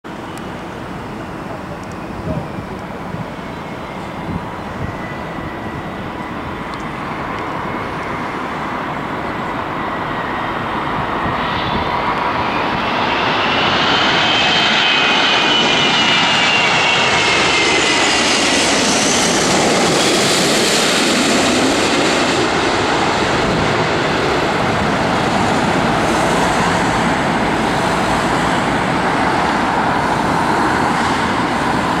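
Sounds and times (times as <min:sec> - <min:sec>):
jet airliner passing overhead: 0:00.1 - 0:32.0.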